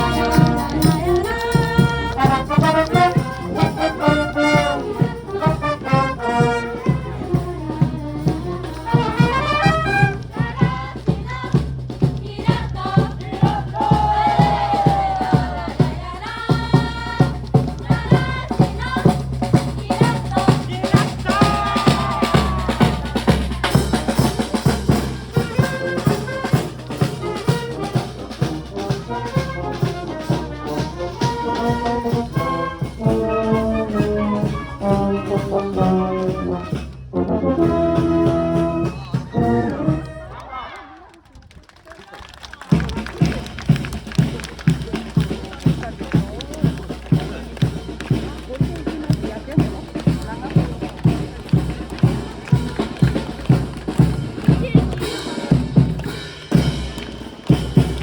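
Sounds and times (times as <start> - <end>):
steady drum beat: 0.0 - 40.4, 42.6 - 58.0
marching band brass melody: 0.0 - 41.1, 42.6 - 58.0.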